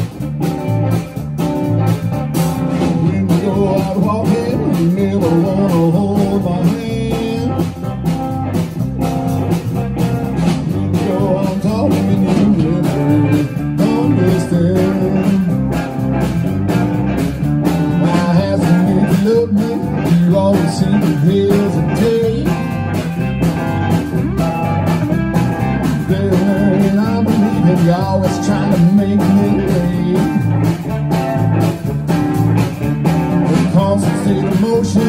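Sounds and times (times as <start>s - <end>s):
bass guitar: 0.0s - 35.0s
electric guitars: 0.0s - 35.0s
steady drum beat: 0.0s - 35.0s.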